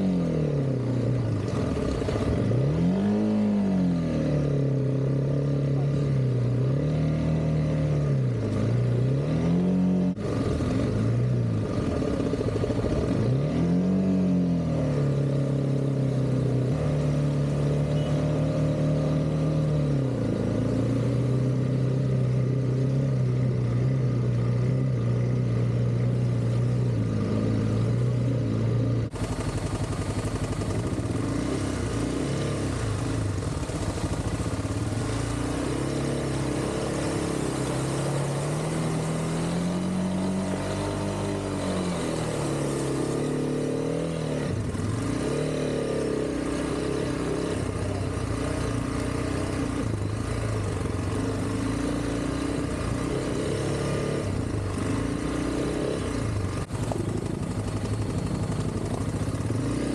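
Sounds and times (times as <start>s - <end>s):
motorcycle engine in mud: 0.0s - 59.9s.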